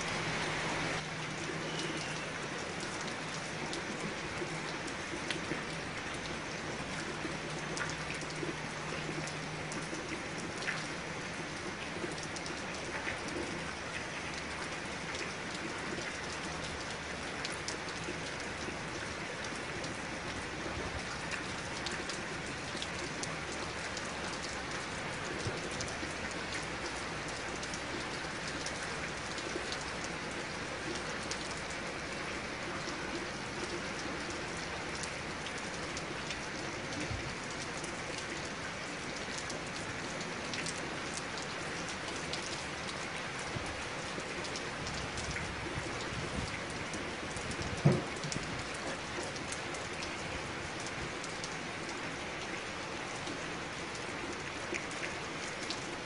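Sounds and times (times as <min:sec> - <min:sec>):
raindrops ticking: 0:00.0 - 0:56.0
steady rain hiss: 0:00.0 - 0:56.0.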